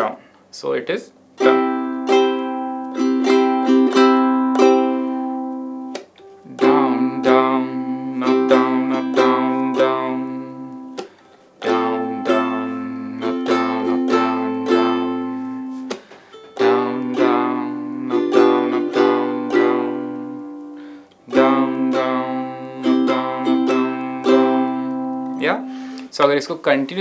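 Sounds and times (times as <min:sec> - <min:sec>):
ukulele strumming chords: 0:01.4 - 0:26.6.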